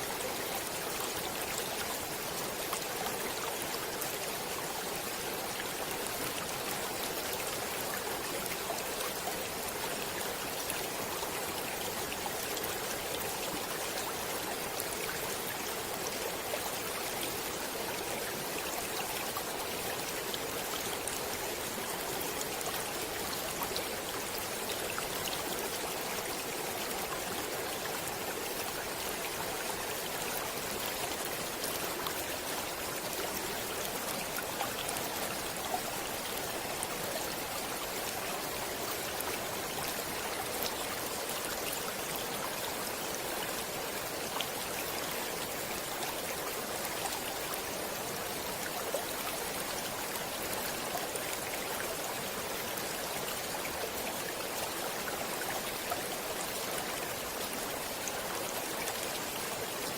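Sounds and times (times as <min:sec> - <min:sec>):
stream water flowing and splashing: 0:00.0 - 0:59.9.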